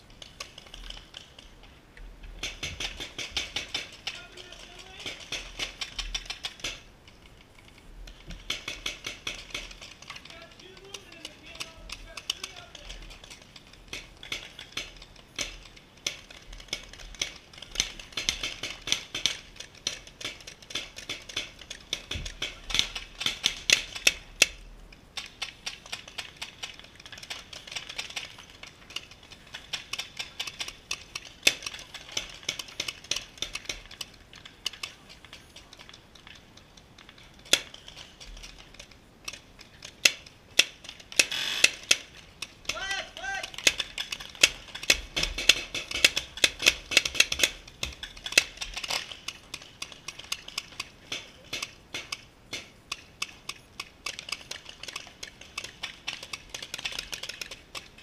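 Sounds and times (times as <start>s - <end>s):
paintball markers firing: 8.2s - 24.6s, 25.2s - 58.0s.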